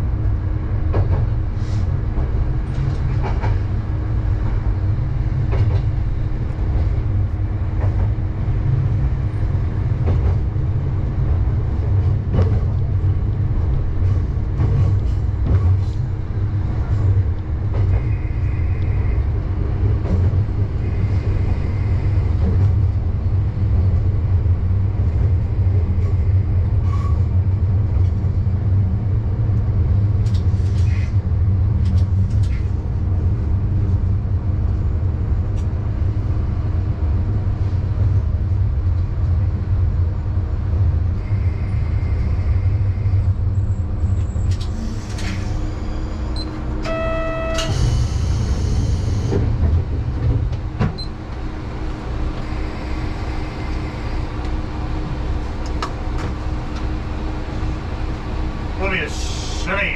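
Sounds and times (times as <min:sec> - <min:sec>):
railcar engine and wheels droning: 0:00.0 - 0:59.9.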